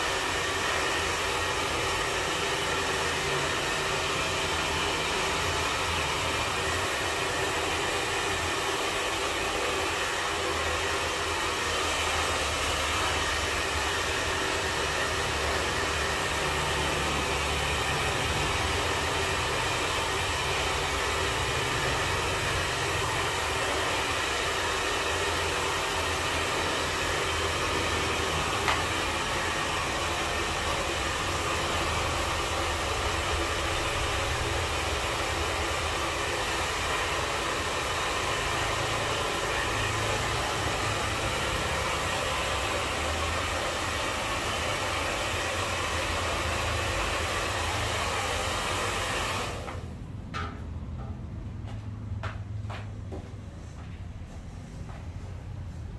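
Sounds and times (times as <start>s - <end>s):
hair dryer blowing: 0.0s - 50.1s.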